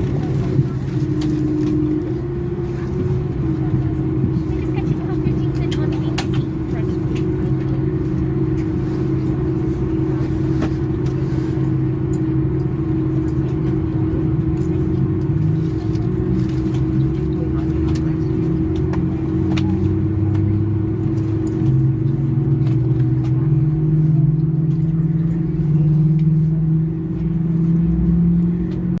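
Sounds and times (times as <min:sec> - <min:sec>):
steady drone: 0:00.0 - 0:29.0.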